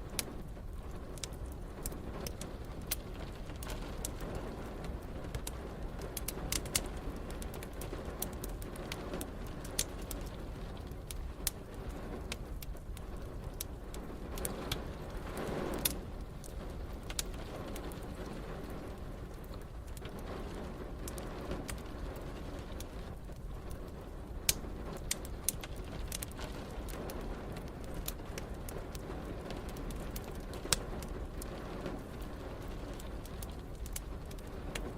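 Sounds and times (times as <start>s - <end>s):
steady rain: 0.0s - 34.9s
wood fire crackling and popping: 0.0s - 34.9s.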